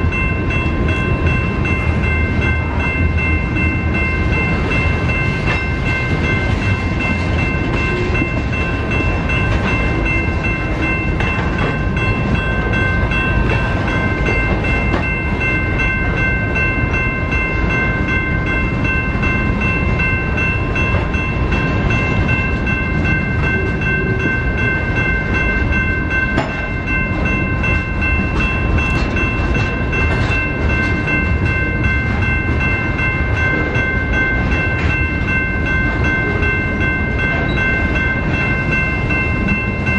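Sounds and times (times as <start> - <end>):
freight train rumbling: 0.0 - 39.9
high-pitched ringing tones: 0.0 - 39.9.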